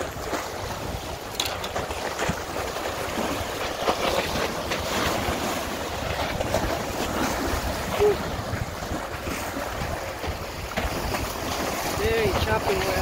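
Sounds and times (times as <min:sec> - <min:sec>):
water splashing and lapping: 0:00.0 - 0:13.0
wind buffeting microphone: 0:00.0 - 0:13.0.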